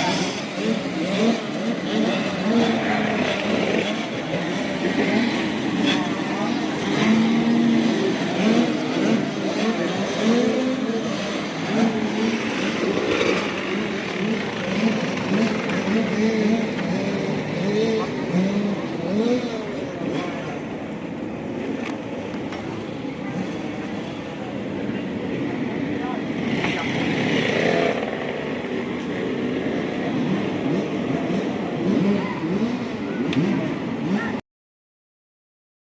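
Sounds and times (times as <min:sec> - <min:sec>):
motocross bikes revving: 0:00.0 - 0:34.4.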